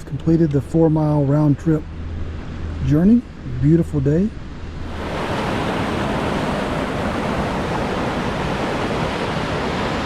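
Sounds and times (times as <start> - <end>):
steady rushing noise: 0.2 - 10.0.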